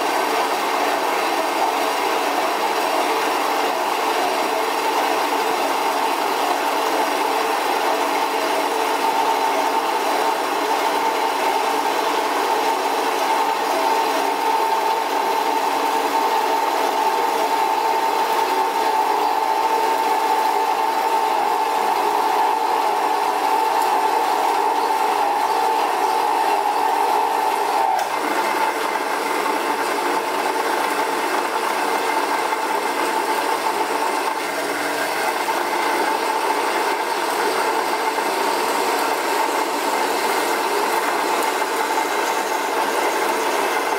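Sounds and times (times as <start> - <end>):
bandsaw motor whine: 0.0 - 43.9.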